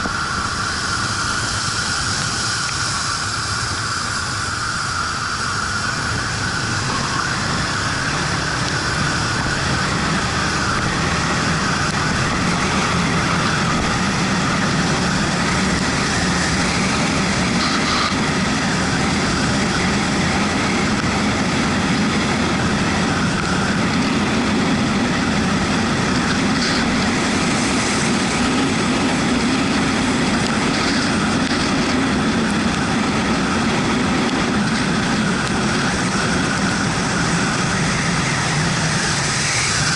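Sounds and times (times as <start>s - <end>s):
tyre spray on wet road: 0.0s - 24.2s, 24.9s - 39.9s
wind rushing: 0.0s - 39.9s.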